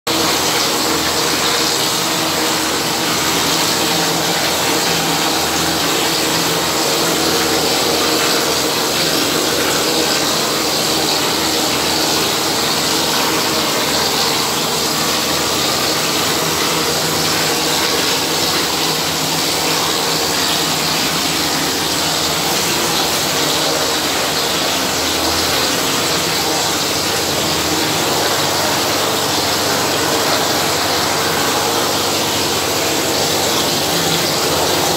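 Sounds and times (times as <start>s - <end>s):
machine hum: 0.1s - 34.9s.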